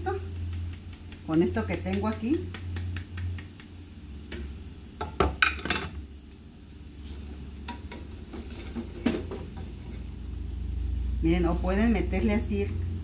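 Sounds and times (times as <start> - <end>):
frying fat sizzling: 0.0 - 13.0.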